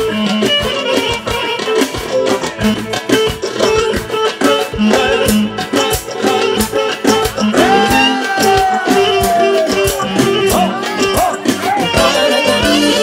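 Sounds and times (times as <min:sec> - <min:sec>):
clarinet melody: 0:00.0 - 0:13.0
plucked guitar accompaniment: 0:00.0 - 0:13.0
steady beat: 0:00.1 - 0:13.0.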